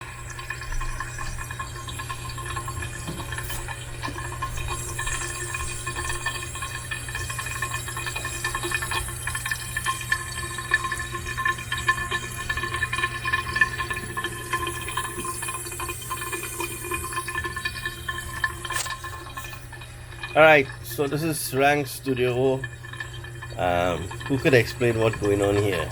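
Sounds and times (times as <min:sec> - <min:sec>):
water rushing through pipe: 0:00.0 - 0:25.9.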